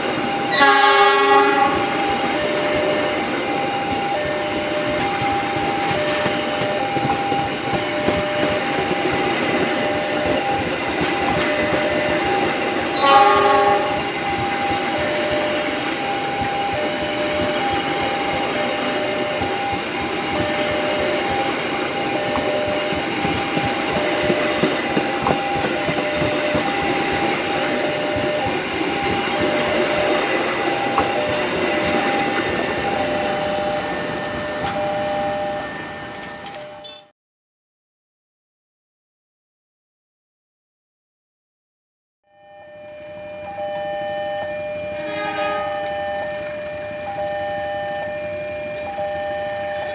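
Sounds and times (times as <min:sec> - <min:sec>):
train horn blast: 0:00.0 - 0:37.1, 0:42.6 - 0:48.1
train wheels clacking on rails: 0:00.0 - 0:37.1, 0:43.1 - 0:49.9.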